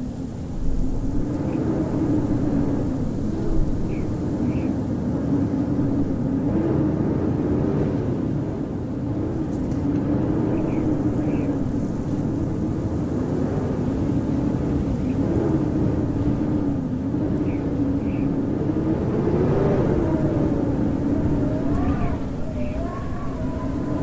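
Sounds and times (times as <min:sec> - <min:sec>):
howling wind: 0:00.0 - 0:24.0.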